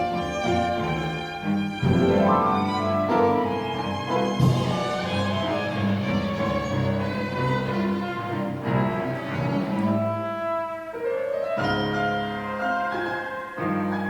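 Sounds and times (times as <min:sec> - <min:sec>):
chamber quintet playing classical music: 0:00.0 - 0:14.0.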